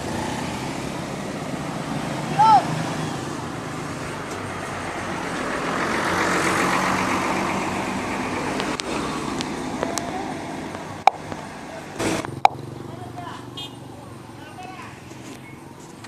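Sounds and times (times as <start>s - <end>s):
bus passing by: 0.0s - 16.0s.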